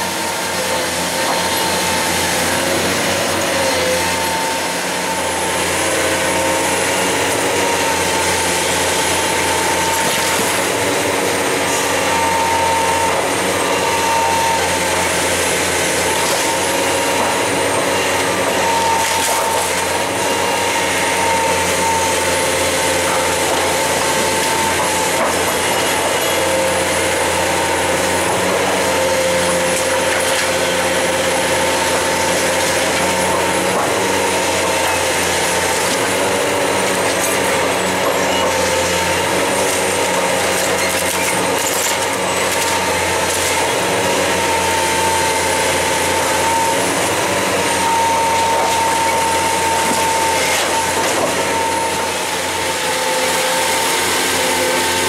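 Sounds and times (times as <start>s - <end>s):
excavator diesel engine and hydraulics: 0.0s - 55.0s.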